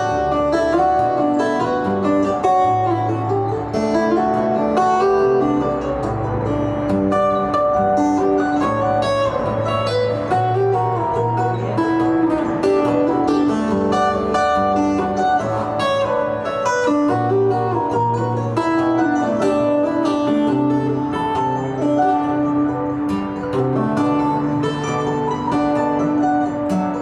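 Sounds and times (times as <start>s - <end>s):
acoustic guitar instrumental: 0.0s - 27.0s.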